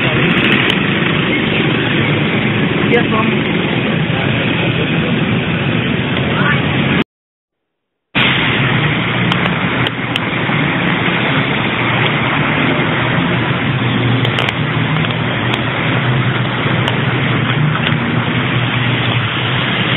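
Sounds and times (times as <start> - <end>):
engine running: 0.0 - 7.0, 8.2 - 19.9
loud rushing noise: 0.0 - 7.0, 8.2 - 19.9.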